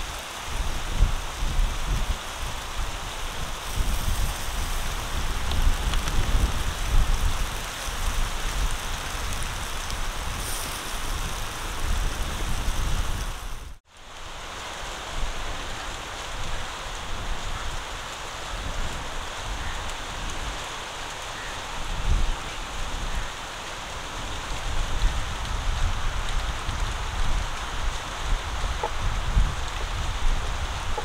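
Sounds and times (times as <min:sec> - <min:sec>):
chicken sizzling on grill: 0:00.0 - 0:14.4, 0:15.1 - 0:31.0.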